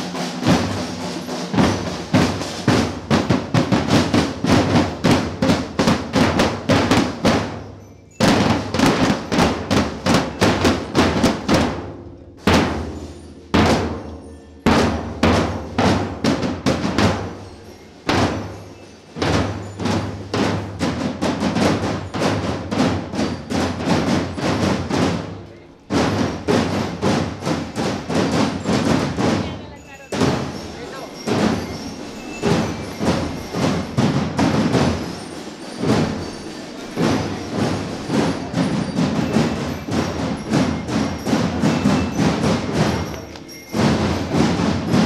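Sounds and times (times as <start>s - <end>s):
marching snare and bass drums: 0.0s - 45.0s.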